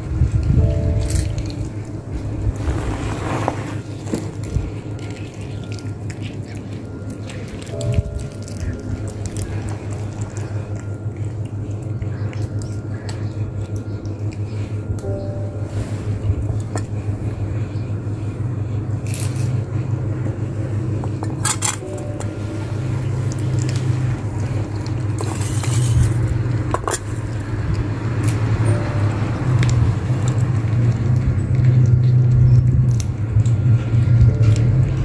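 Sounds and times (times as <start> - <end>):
steady low rumble: 0.0 - 35.0
cats chewing chicken bones: 3.8 - 15.0, 16.3 - 35.0.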